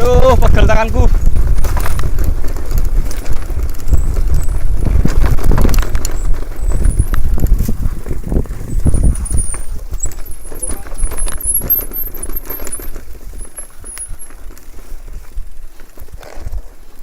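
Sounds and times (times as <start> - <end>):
mountain bike rattling: 0.0 - 17.0.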